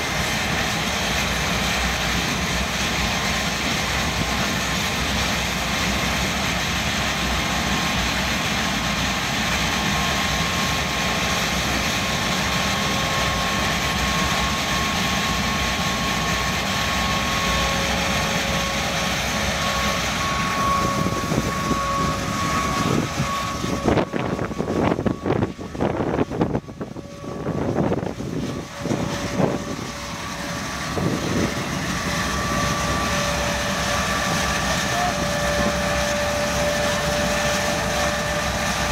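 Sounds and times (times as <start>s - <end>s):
jet engine roaring and whining: 0.0s - 38.9s.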